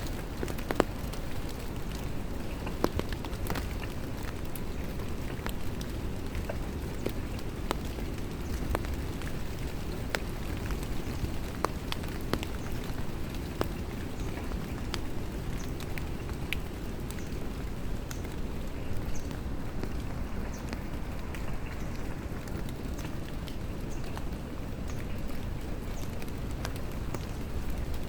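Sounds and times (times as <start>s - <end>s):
rain rushing wash: 0.0s - 28.0s
raindrops pattering close by: 0.0s - 28.0s.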